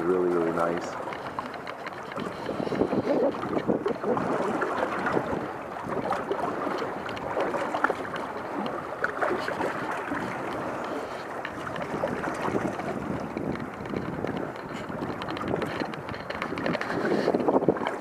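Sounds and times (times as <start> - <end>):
lake water lapping and splashing: 0.0 - 18.0.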